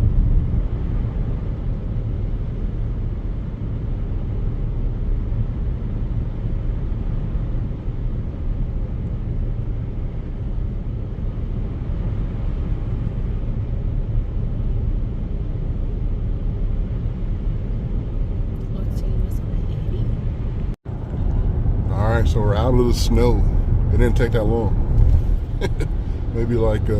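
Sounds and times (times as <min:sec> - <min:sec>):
car interior road rumble: 0:00.0 - 0:26.9.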